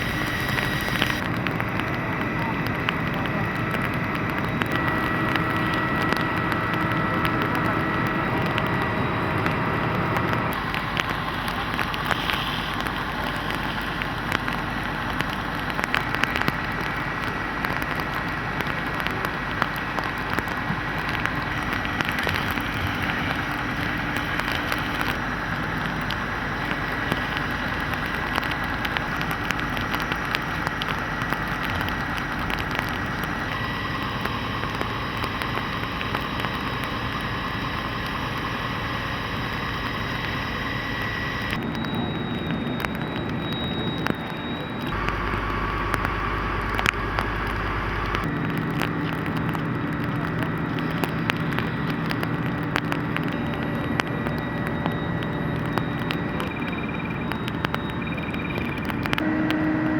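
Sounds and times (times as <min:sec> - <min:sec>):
fire crackling: 0:00.0 - 0:59.9
vehicle engine running: 0:00.0 - 0:59.9.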